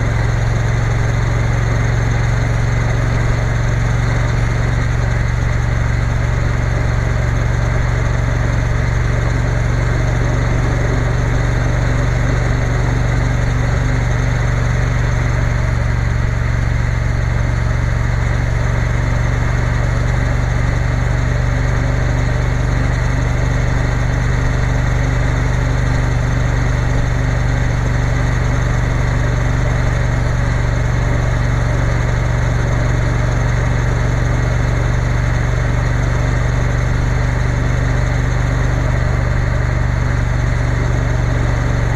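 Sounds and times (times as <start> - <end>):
motorcycle engine droning: 0.0 - 41.9.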